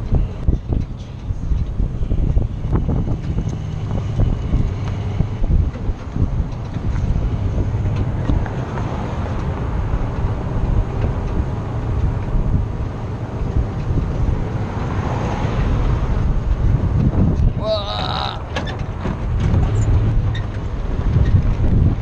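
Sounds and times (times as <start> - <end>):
road noise: 0.0 - 22.0
wind buffeting microphone: 0.0 - 22.0.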